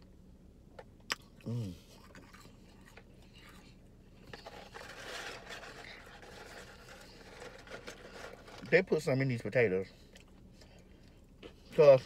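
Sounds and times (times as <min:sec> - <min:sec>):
faint chewing: 0:01.0 - 0:08.7, 0:09.8 - 0:12.0.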